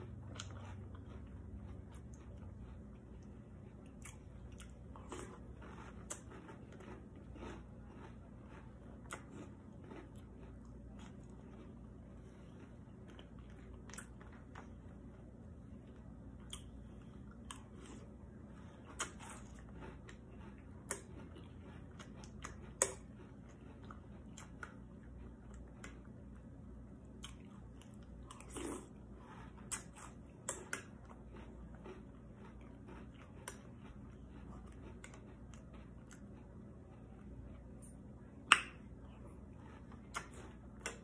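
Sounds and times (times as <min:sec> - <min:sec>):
chewing and crunching cereal: 0:00.0 - 0:41.0.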